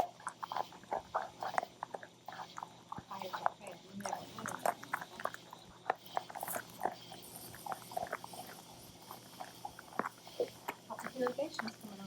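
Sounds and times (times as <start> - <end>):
puppies chewing on bone: 0.0 - 12.0.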